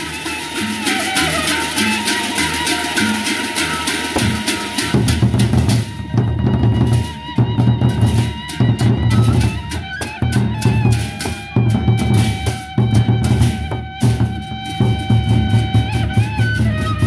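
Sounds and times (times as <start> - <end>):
barrel drums beaten with sticks: 0.0 - 17.0
wavering bamboo flute melody: 0.0 - 17.0.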